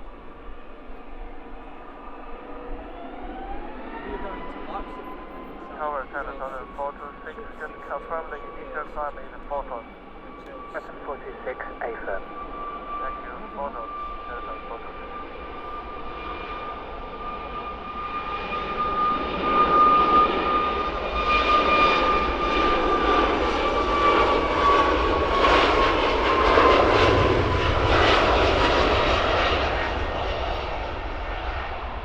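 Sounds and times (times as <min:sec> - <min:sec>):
jet aircraft passing: 0:00.0 - 0:32.0.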